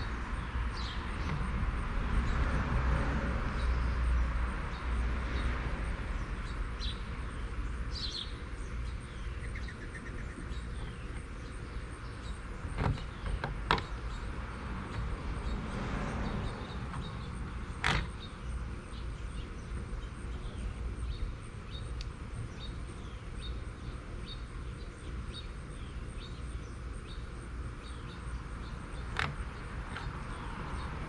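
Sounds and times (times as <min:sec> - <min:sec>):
birds chirping: 0:00.0 - 0:02.6, 0:06.1 - 0:31.0
steady low hum: 0:00.0 - 0:31.0.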